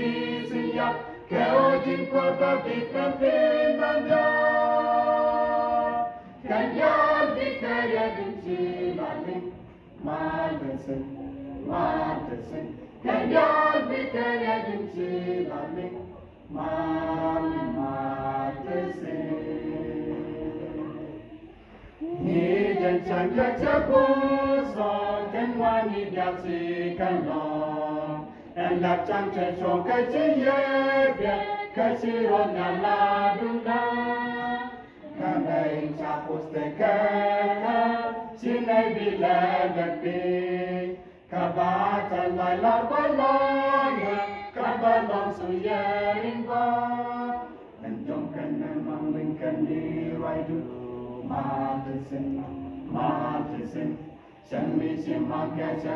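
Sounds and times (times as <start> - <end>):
choir singing a cappella: 0.0 - 55.9.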